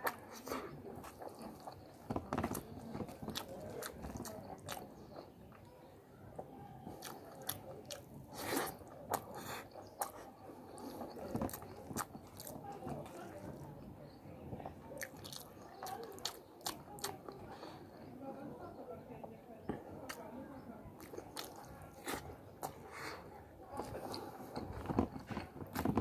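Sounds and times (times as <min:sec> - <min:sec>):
close chewing: 0:00.0 - 0:18.1, 0:20.9 - 0:26.0.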